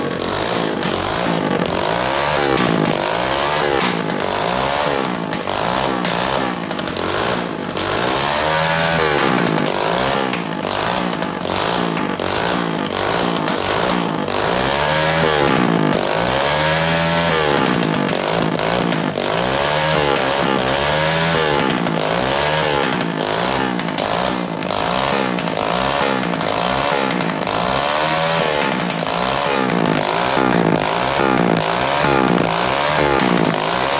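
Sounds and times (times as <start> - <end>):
pit bike engine revving: 0.0 - 33.9.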